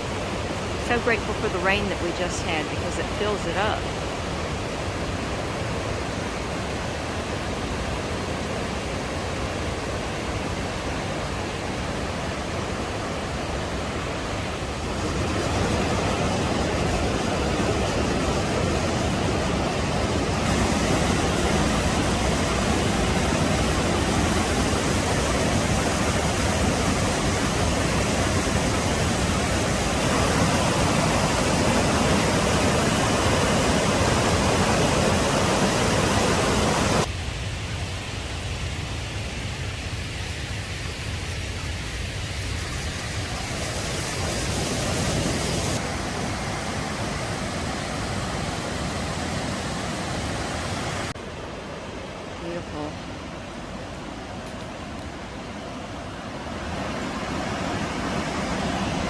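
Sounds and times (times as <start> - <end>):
waterfall rushing: 0.0 - 37.1, 37.8 - 59.0.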